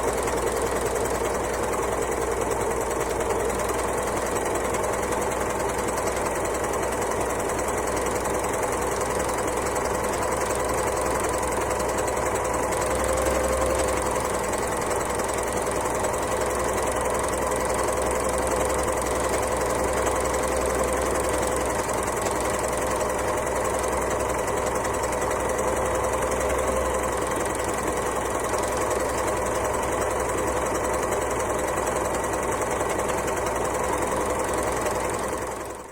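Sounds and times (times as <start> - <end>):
sewing machine running: 0.0 - 35.9.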